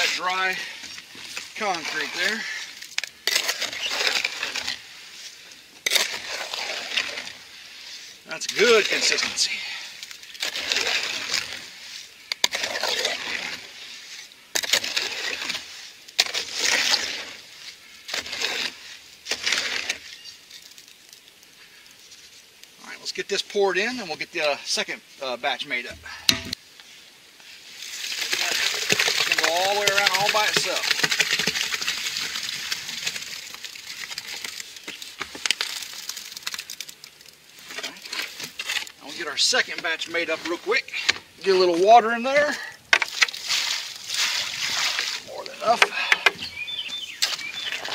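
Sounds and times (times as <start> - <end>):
hoe scraping wet concrete: 0.0 - 20.8, 27.4 - 36.9, 37.6 - 47.9.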